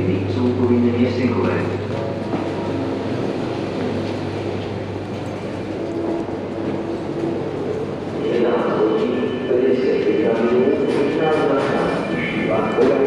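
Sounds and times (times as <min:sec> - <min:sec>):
echoing underpass noise: 0:00.0 - 0:13.0.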